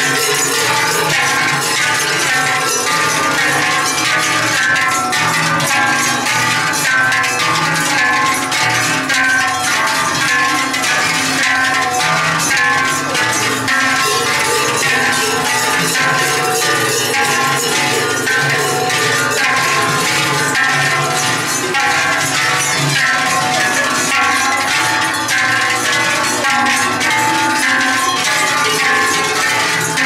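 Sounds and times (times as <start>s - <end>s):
large cowbells clanging: 0.0s - 30.0s.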